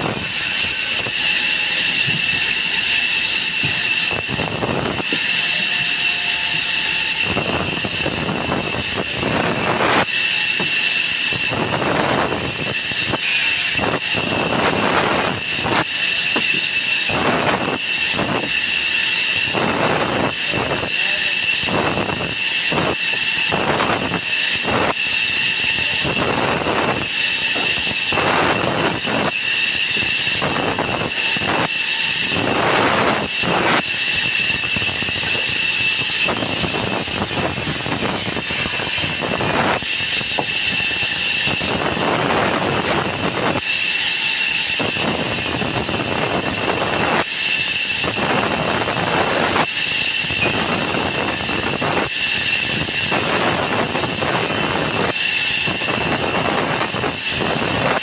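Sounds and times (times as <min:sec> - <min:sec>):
sawmill saw whining: 0:00.0 - 0:58.0.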